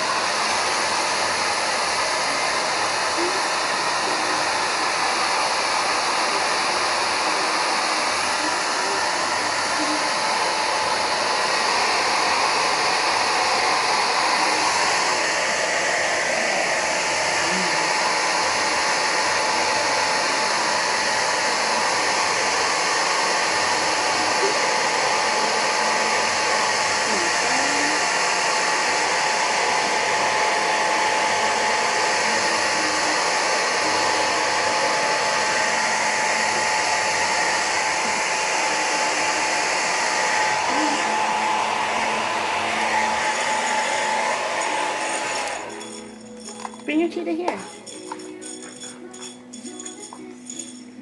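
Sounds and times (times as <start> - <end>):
hair dryer blowing: 0.0 - 51.0.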